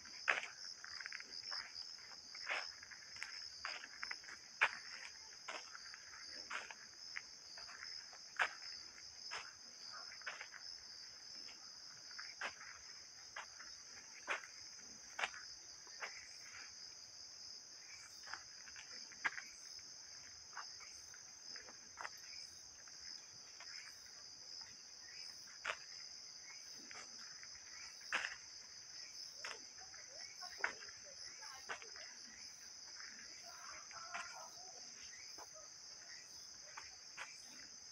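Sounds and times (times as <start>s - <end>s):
insects chorus: 0.0s - 37.9s.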